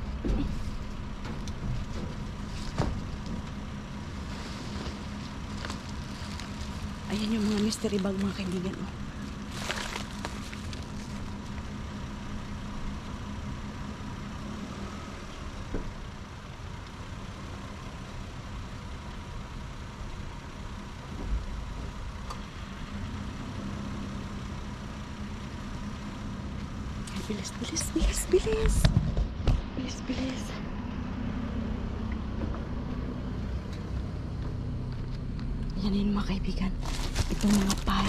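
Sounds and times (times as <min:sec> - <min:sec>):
low engine hum: 0:00.0 - 0:38.0.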